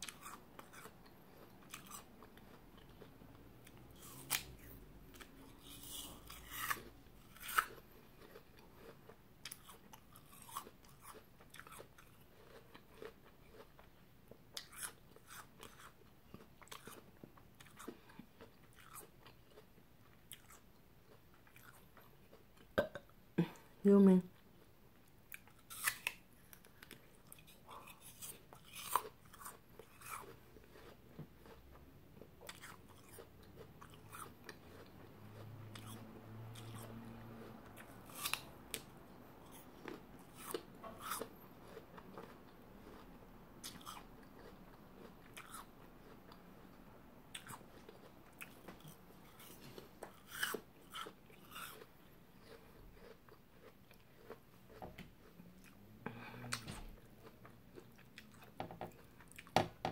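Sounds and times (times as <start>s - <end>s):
chewing crisp apple: 0.0s - 59.6s.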